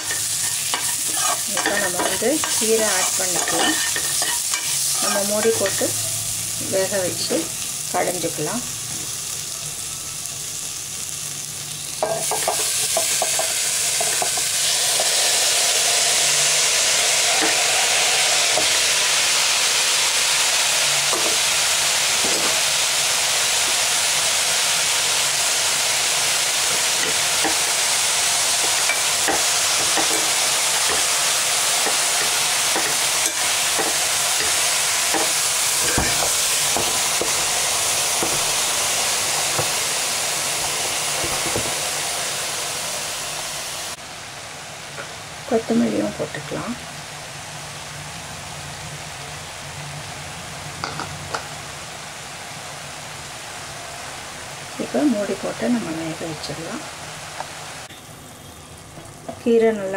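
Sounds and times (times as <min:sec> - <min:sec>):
greens sizzling in hot oil: 0:00.0 - 0:59.9.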